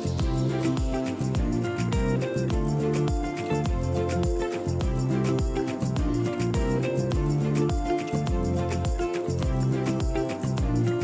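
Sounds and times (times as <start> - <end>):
bass drum beat: 0.1 - 11.0.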